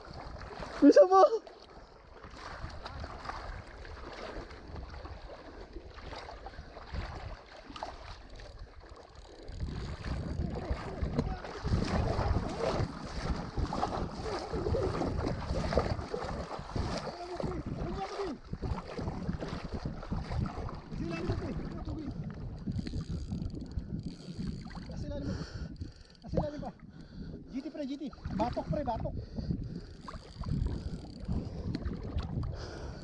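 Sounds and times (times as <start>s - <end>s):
shallow seawater lapping: 0.0s - 33.0s
wind buffeting microphone: 2.1s - 33.0s.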